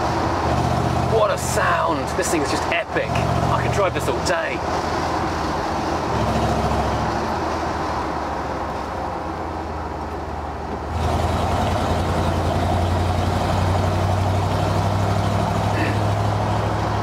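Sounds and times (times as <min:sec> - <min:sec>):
pickup truck engine: 0:00.0 - 0:17.0.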